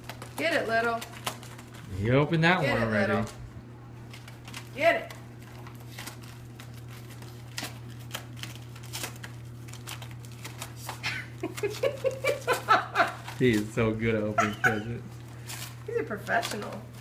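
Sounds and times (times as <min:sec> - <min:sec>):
wrapping paper crinkling and tearing: 0:00.0 - 0:03.4, 0:04.0 - 0:17.0
steady low hum: 0:00.0 - 0:17.0.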